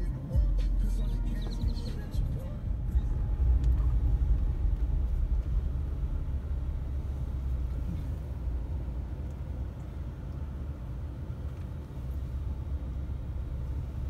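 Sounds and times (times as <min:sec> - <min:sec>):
car driving rumble from inside: 0:00.0 - 0:14.0.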